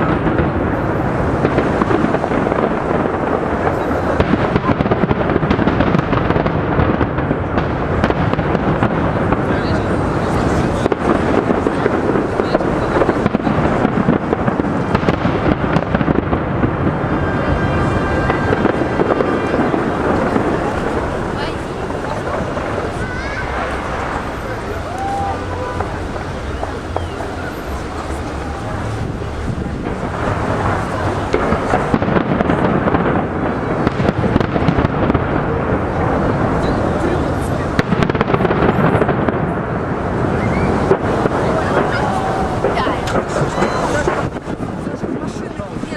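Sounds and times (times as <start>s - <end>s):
fireworks bursting: 0.0s - 45.9s.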